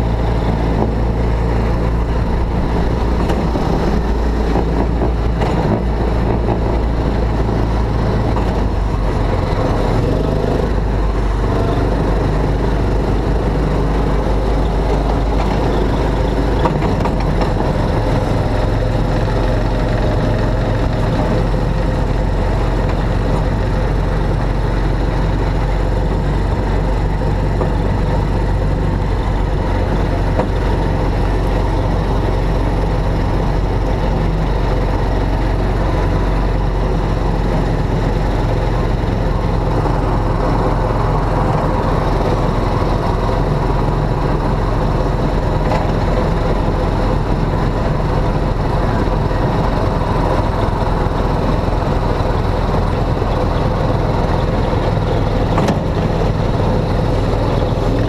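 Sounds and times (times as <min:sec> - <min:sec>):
ride car motor running: 0:00.0 - 0:58.0.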